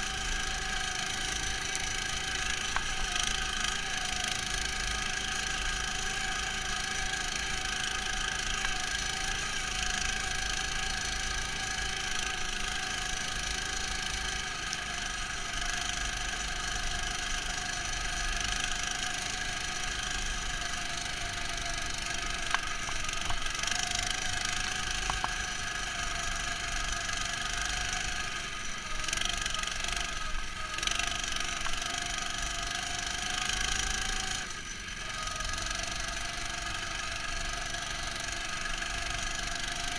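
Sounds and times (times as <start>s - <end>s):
muffled snow tow engine running: 0.0s - 39.9s.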